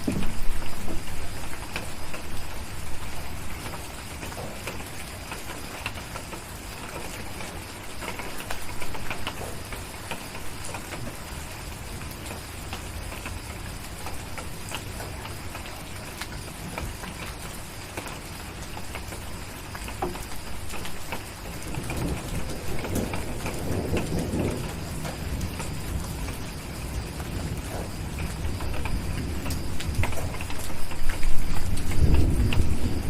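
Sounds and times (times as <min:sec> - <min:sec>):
distant thunder rumble: 0:00.0 - 0:19.4, 0:20.0 - 0:33.0
fireplace fire crackling: 0:00.0 - 0:33.0
steady rain: 0:00.0 - 0:33.0.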